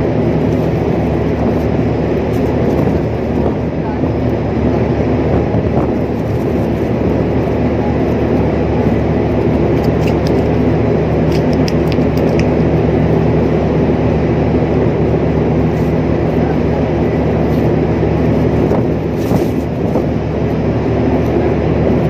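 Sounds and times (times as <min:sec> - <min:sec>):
low drone of ship machinery: 0:00.0 - 0:22.0.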